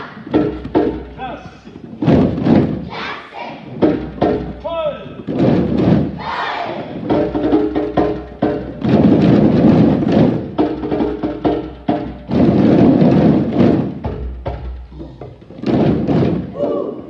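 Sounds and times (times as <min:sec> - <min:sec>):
hand drumming on djembes: 0:00.0 - 0:03.0, 0:03.7 - 0:16.8.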